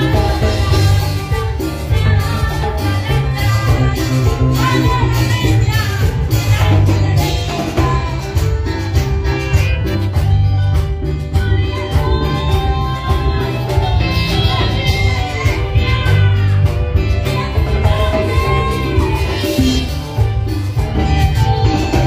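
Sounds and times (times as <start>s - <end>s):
backing music with heavy bass: 0.0s - 22.0s
woman singing into microphone: 0.0s - 22.0s.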